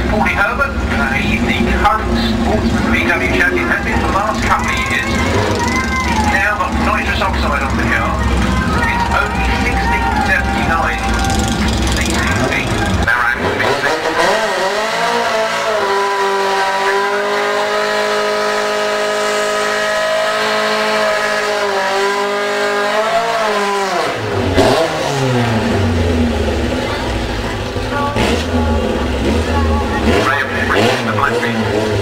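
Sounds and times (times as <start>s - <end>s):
car engine revving: 0.0s - 32.0s
tyres spinning: 0.0s - 32.0s.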